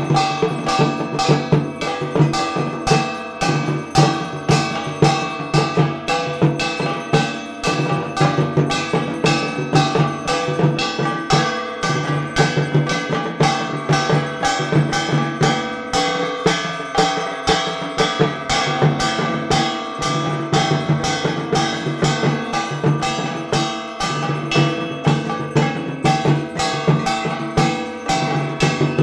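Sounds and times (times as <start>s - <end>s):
bells ringing: 0.0s - 29.0s
drums beating fast: 0.0s - 29.0s.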